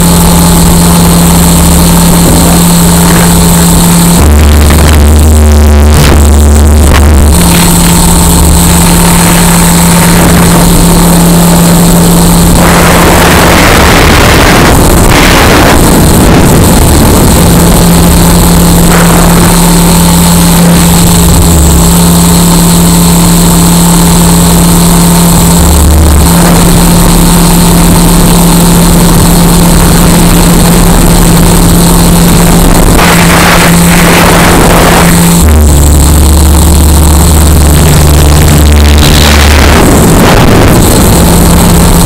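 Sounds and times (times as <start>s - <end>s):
high whine: 0.0s - 42.0s
rc helicopter rotor drone: 0.0s - 42.0s.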